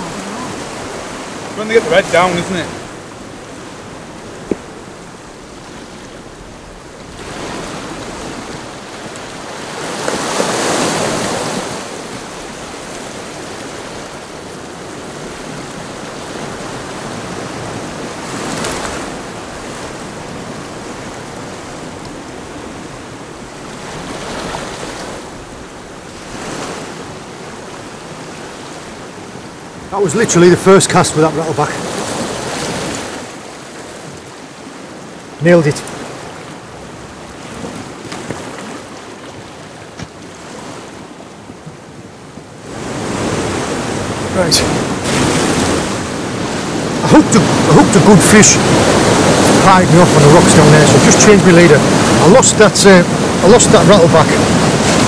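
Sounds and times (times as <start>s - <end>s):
waves washing against rocks: 0.0s - 55.0s.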